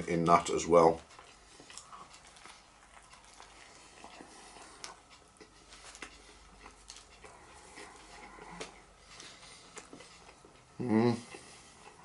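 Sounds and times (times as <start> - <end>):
person chewing: 1.0 - 12.0.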